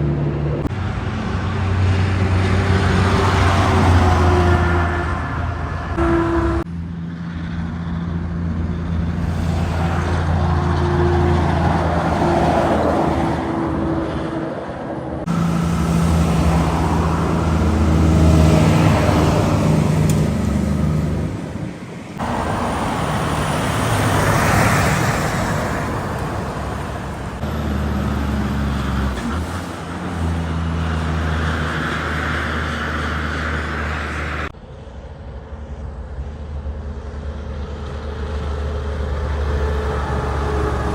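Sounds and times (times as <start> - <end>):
heavy trucks driving past: 0.0 - 40.9.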